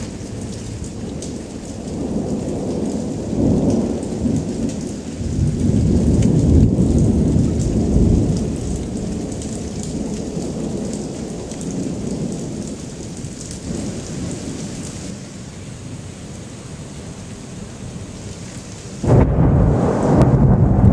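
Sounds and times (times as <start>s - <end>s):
thunder rumbling: 0.0s - 15.2s, 19.0s - 20.9s
rain on paving: 0.0s - 20.9s.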